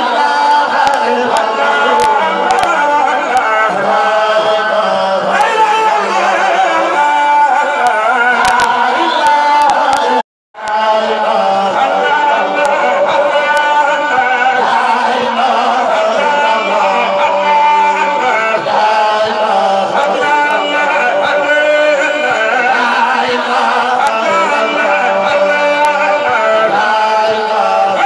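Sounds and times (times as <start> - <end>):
men chanting into microphones: 0.0 - 28.0.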